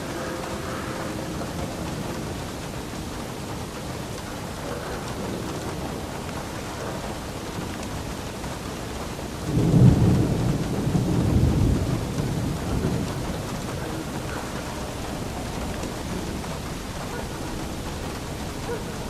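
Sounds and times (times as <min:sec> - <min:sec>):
rain falling: 0:00.0 - 0:19.0
thunder rumbling: 0:00.0 - 0:19.0.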